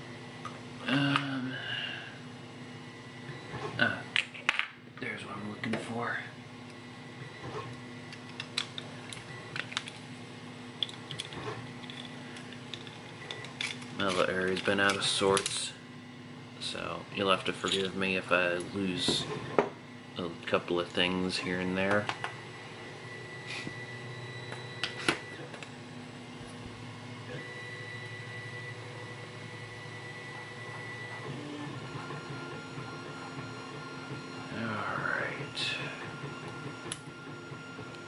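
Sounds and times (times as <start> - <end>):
steady high-pitched whine: 0.0 - 38.0.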